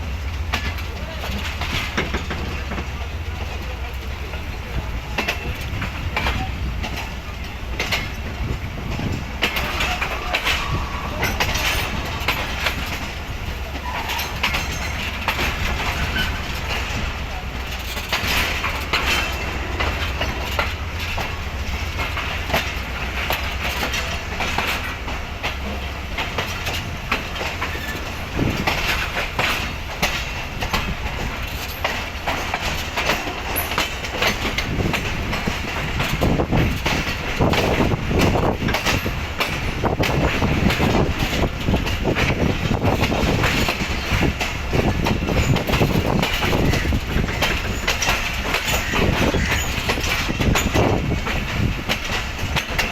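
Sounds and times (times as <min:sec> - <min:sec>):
train rumble: 0:00.0 - 0:52.9
train wheels clattering over rails: 0:00.0 - 0:52.9.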